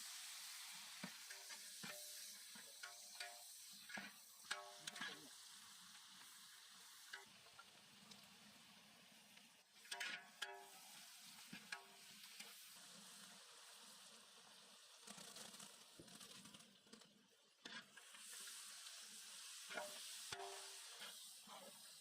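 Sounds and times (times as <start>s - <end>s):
food sizzling in hot oil: 0.0s - 16.6s, 17.6s - 22.0s.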